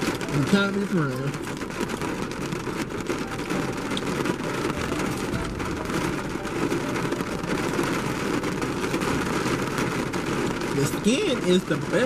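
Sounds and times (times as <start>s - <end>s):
rain on car roof: 0.0s - 12.0s.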